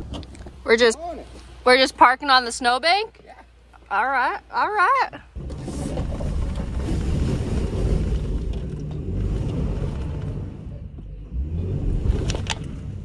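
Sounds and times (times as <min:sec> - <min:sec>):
car engine and tyres in snow: 0:00.0 - 0:13.0.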